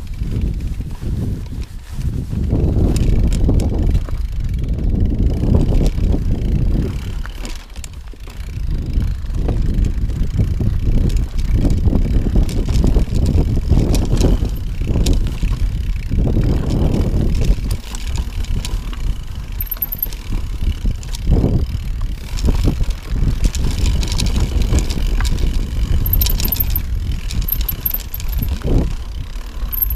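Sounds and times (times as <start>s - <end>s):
bike rumbling over stony trail: 0.0s - 29.9s
wheels rattling and knocking on rocks: 0.0s - 29.9s.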